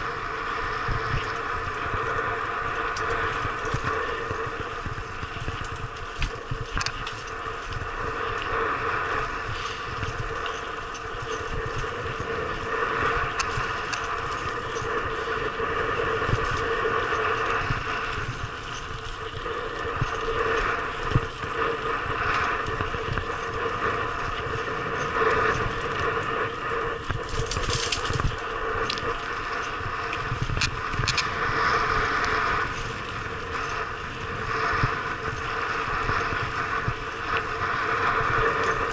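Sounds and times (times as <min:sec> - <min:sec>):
bike knocking and rattling: 0:00.0 - 0:38.9
bike tyres rushing on gravel: 0:00.0 - 0:38.9.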